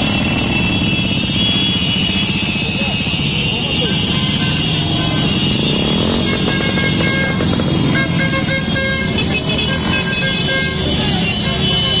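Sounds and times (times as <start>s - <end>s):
horn toots: 0.0s - 12.0s
scooters and motorcycles passing: 0.0s - 12.0s.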